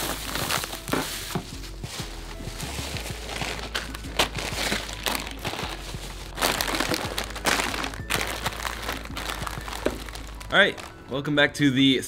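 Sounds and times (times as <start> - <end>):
plastic bag and wrappers rustling: 0.0 - 11.3.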